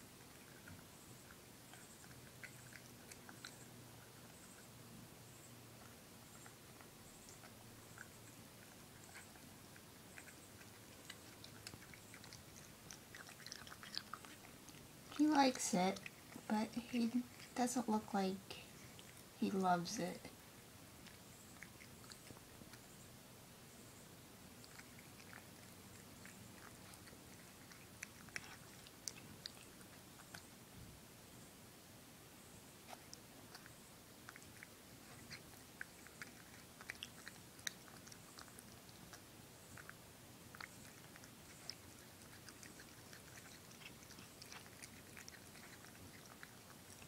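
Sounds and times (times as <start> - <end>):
cat chewing wet food: 0.0 - 19.4, 20.3 - 30.9, 32.7 - 47.0.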